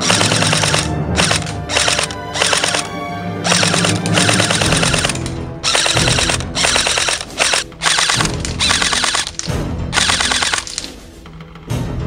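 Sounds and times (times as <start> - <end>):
airsoft rifle full-auto bursts: 0.0 - 10.9.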